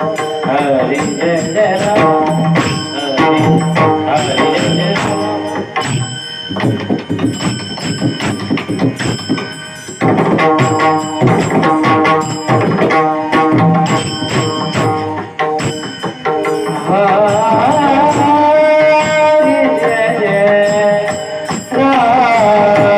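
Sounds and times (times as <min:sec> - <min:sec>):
devotional music: 0:00.0 - 0:22.9
hand drum playing: 0:00.0 - 0:22.9
metallic ringing percussion: 0:00.0 - 0:22.9
sustained melodic tones: 0:00.0 - 0:22.9.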